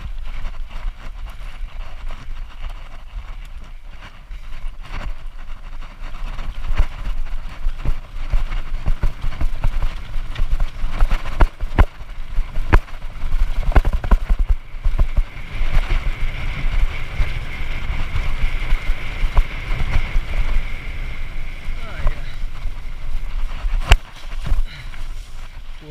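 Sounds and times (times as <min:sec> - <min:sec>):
mountain bike rattling over rocks: 0:00.0 - 0:25.9
tyre rumble: 0:00.0 - 0:25.9.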